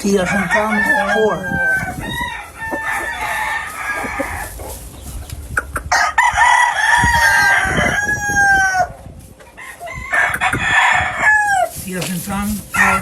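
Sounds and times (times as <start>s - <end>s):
chickens calling: 0.0s - 13.0s
roosters crowing: 0.0s - 13.0s.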